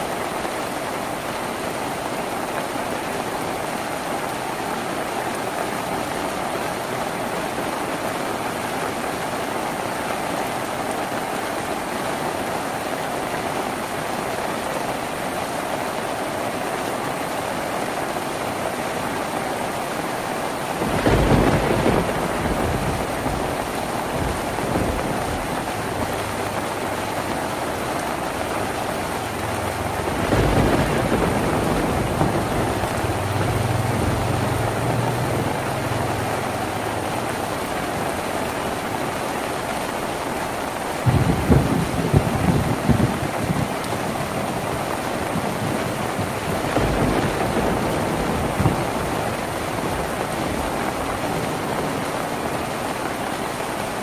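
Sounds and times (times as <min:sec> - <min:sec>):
rain drumming on a tin roof: 0:00.0 - 0:54.0.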